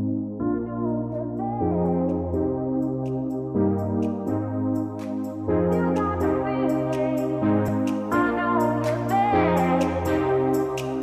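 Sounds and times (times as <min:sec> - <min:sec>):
slow ambient keyboard music: 0:00.0 - 0:11.0.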